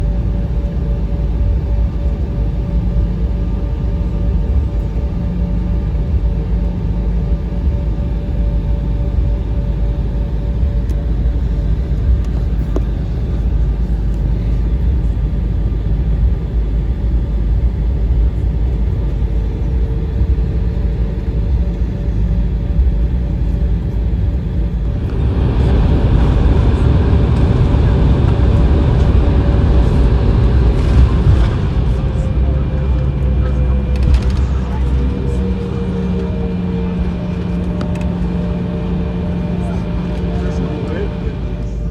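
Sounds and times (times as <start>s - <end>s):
jet cabin rumble and hum: 0.0s - 41.9s.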